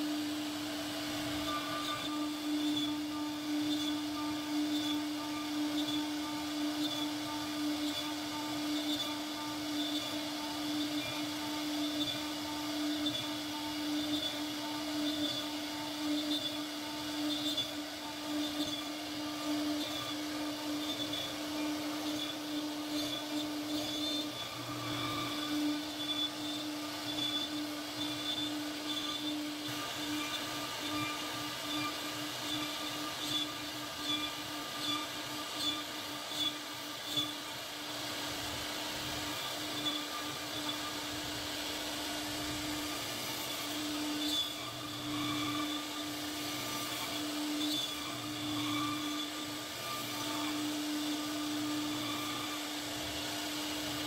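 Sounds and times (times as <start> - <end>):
router spindle whine: 0.0 - 54.0.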